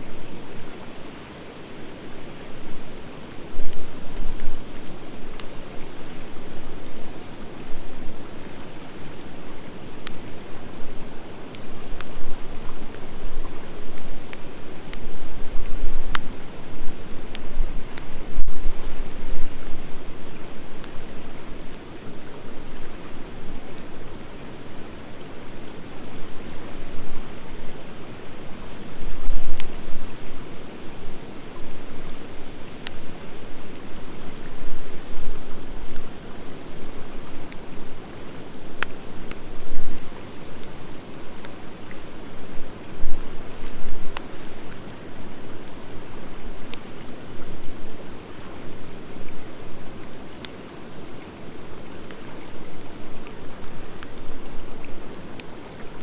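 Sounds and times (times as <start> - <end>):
wood crackling and popping: 0.0 - 56.0
wood fire hissing: 0.0 - 56.0.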